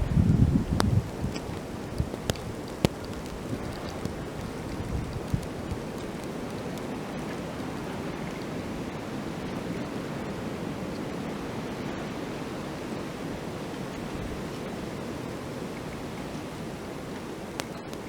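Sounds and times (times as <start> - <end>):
light wind blowing: 0.0 - 18.0.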